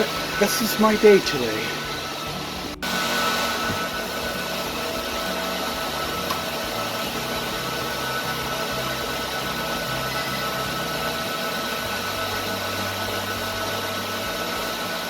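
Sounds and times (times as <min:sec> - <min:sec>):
cooling fans whirring: 0:00.0 - 0:15.0
electrical hum tones: 0:00.0 - 0:15.0.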